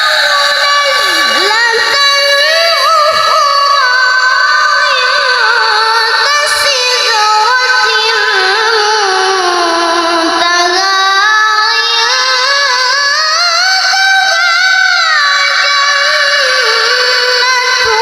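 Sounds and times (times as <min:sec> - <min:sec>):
child reciting melodically: 0:00.0 - 0:18.0.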